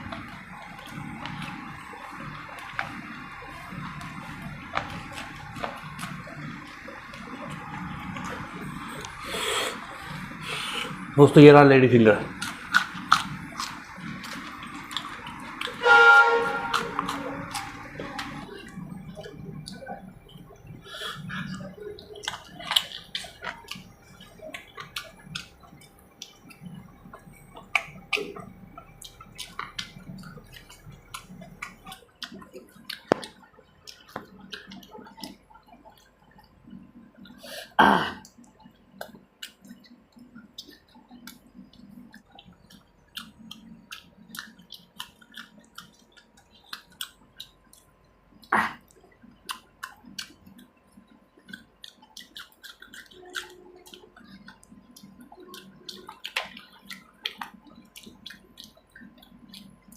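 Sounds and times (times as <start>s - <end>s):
chewing with mouth clicks: 0.0s - 11.2s, 12.2s - 59.9s.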